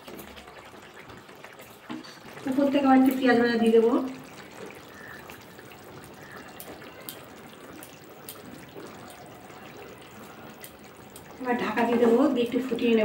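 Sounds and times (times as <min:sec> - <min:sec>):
gravy simmering in a pan: 0:00.0 - 0:13.0.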